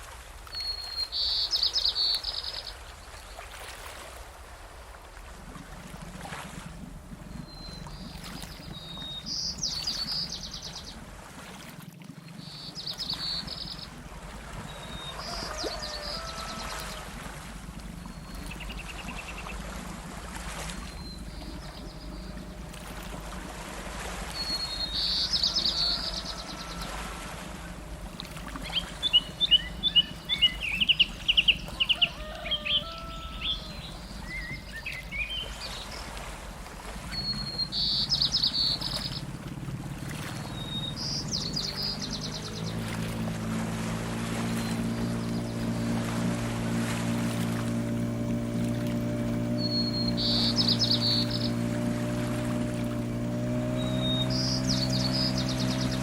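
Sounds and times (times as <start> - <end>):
songbirds singing: 0.5 - 3.6, 5.9 - 11.1, 12.3 - 56.0
steady low hum: 4.1 - 11.4, 12.5 - 56.0.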